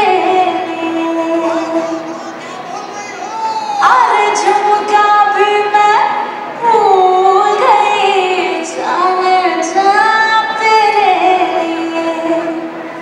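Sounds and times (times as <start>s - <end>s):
woman singing long held notes: 0.0s - 2.1s, 3.8s - 12.8s
backing music: 0.0s - 13.0s.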